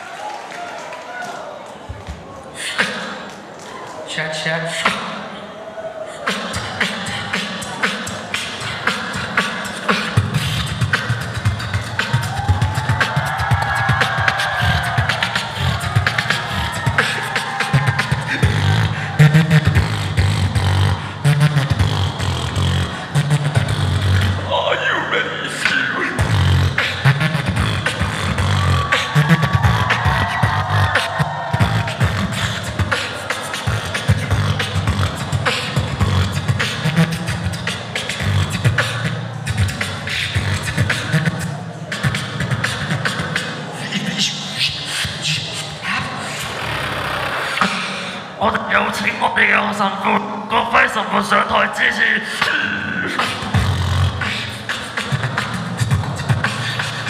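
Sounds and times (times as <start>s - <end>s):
beatboxing into microphone: 1.8s - 57.0s.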